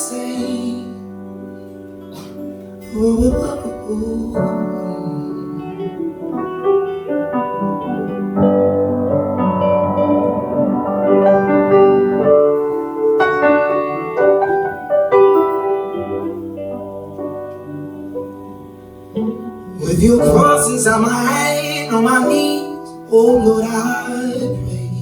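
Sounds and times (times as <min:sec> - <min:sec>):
piano chords and melody: 0:00.0 - 0:25.0.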